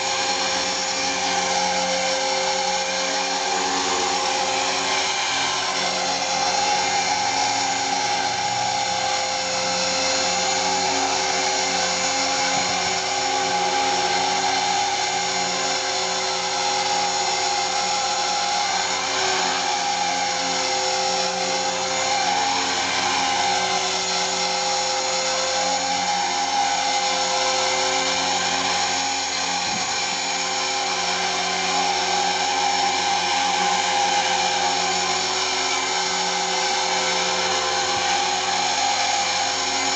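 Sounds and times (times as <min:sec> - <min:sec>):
electric motor whine: 0:00.0 - 0:39.9
helicopter rotor hum: 0:00.0 - 0:39.9.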